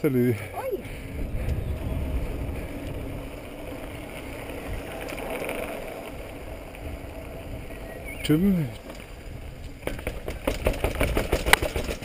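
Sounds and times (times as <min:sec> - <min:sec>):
bike tyre rumble: 0:00.0 - 0:12.0
wind noise on microphone: 0:00.7 - 0:12.0.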